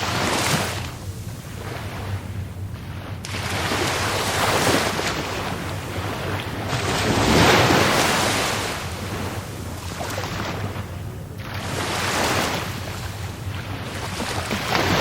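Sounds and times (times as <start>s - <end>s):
waves breaking: 0.0s - 15.0s.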